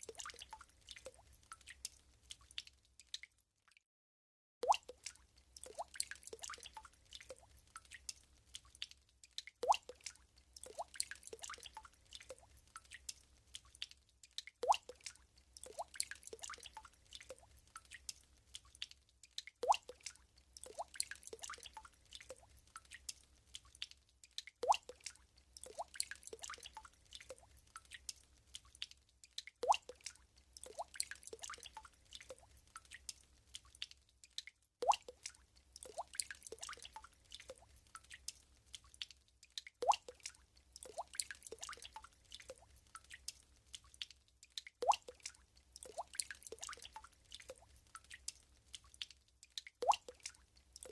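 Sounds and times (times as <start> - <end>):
water drops plinking into water: 0.0 - 3.8, 4.6 - 23.2, 23.8 - 28.2, 28.8 - 50.9.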